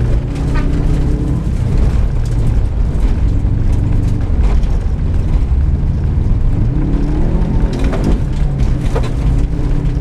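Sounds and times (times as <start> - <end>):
car engine running under load: 0.0 - 10.0
road noise on dirt track: 0.0 - 10.0.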